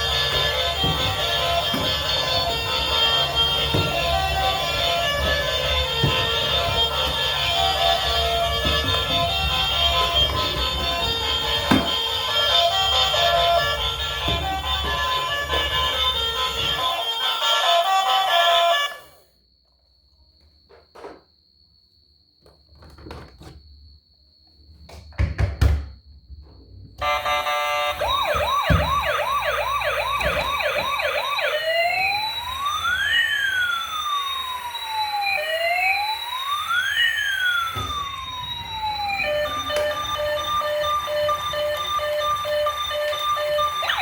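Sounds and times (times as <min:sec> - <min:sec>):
toy vehicle electronic siren: 0:00.0 - 0:19.3, 0:27.0 - 0:44.0.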